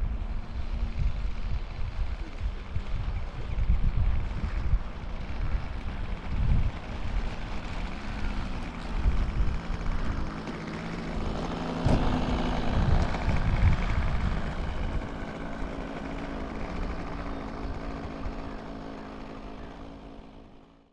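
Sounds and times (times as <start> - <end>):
model airplane engine running: 0.0 - 20.9.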